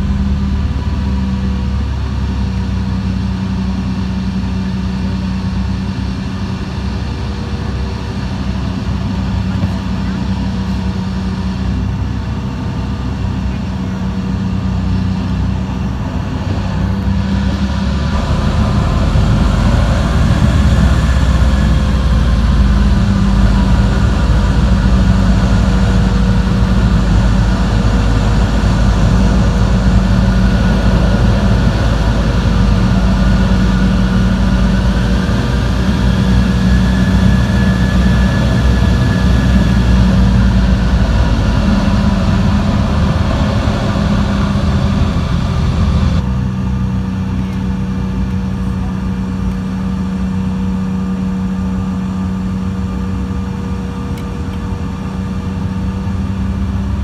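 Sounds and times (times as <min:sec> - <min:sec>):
vehicle rumble from inside: 0:00.0 - 0:57.0.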